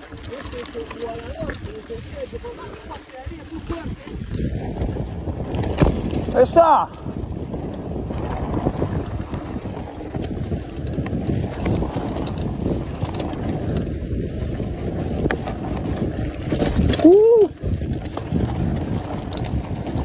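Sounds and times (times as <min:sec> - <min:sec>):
bike rattling on dirt road: 0:00.0 - 0:20.0
wind buffeting microphone: 0:00.0 - 0:20.0.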